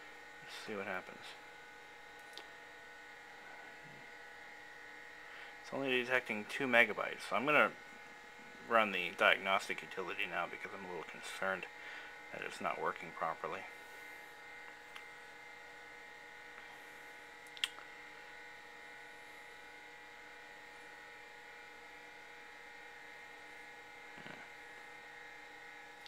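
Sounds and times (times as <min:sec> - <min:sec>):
computer machine hum: 0:00.0 - 0:26.0.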